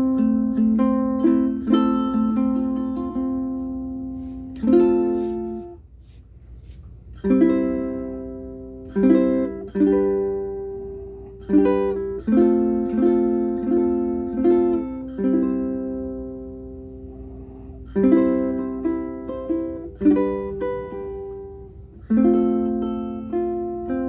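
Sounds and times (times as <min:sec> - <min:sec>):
ukulele chords fingerpicked: 0:00.0 - 0:05.8, 0:07.2 - 0:24.0.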